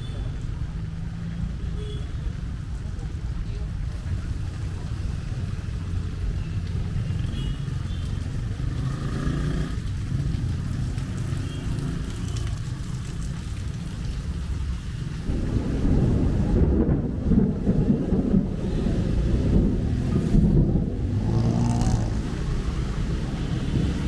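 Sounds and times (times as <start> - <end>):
low rumble of traffic: 0.0 - 24.0
rain: 0.0 - 24.0.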